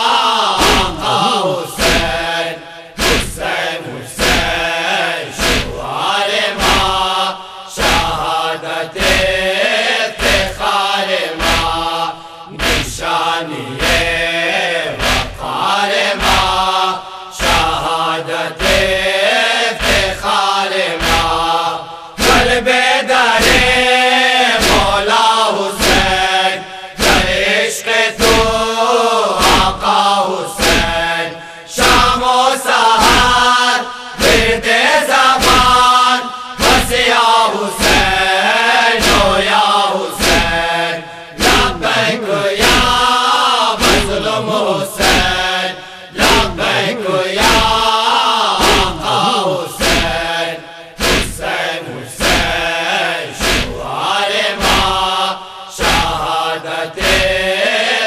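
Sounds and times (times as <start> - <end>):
voices chanting a lament: 0.0 - 58.0
strong rhythmic thumps: 0.5 - 57.6.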